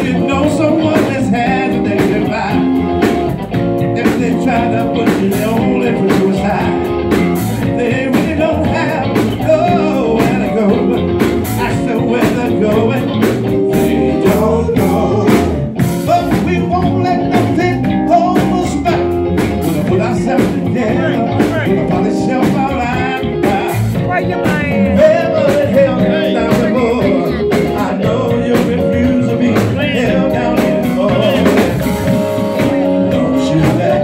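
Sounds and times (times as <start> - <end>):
person singing into microphone: 0.0 - 3.1, 3.9 - 34.0
drum kit: 0.0 - 34.0
electric bass: 0.0 - 34.0
electric guitar: 0.0 - 34.0.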